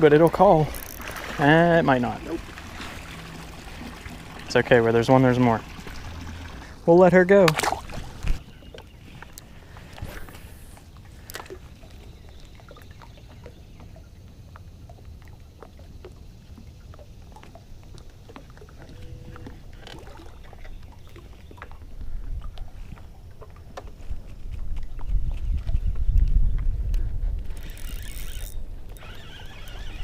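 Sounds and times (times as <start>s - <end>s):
water sloshing against boat hull: 0.0s - 30.0s.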